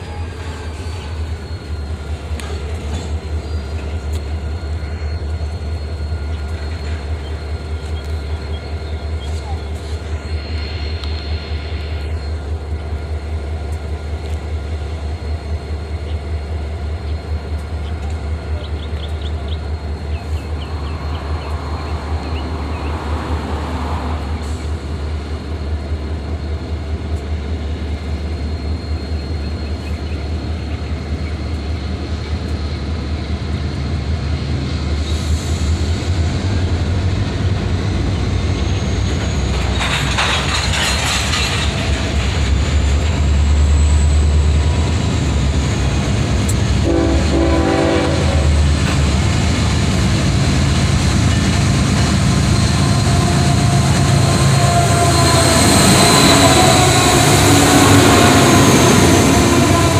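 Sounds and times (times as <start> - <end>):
freight train rumble: 0.0 - 59.9
train wheel squeals: 0.0 - 59.9.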